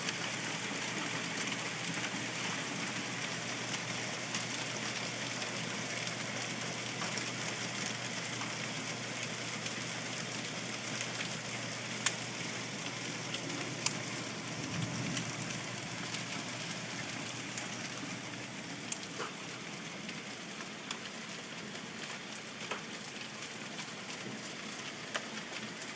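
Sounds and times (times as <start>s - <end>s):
hailstones clicking on hard surfaces: 0.0s - 25.9s
rain downpour: 0.0s - 25.9s.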